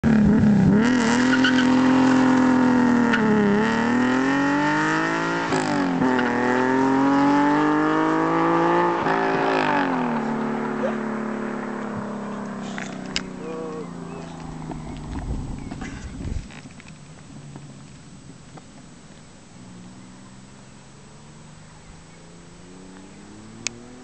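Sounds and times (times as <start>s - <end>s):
car engine revving at full throttle: 0.0s - 16.4s, 19.3s - 24.0s.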